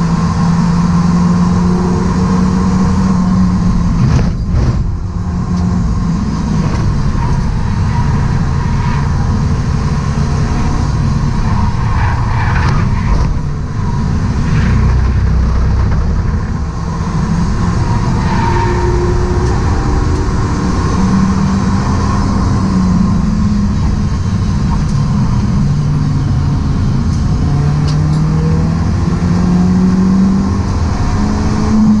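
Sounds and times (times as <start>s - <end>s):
car engine working hard: 0.0s - 32.0s
road and wind noise: 0.0s - 32.0s.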